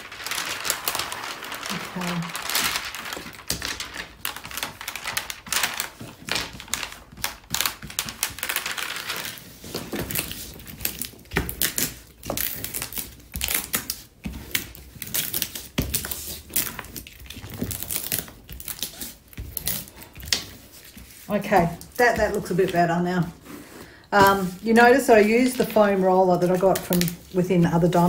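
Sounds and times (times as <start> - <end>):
plastic film crinkling: 0.0 - 28.0.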